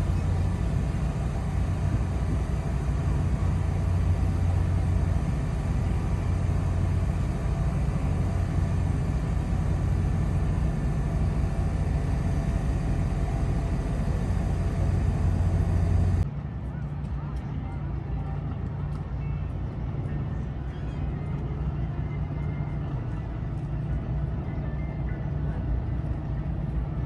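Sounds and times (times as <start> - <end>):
vehicle rumble and hiss: 0.0 - 27.0.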